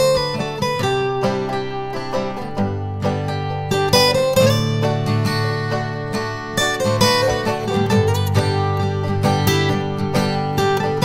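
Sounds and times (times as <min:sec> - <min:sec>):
plucked-string instrumental music: 0:00.0 - 0:11.0.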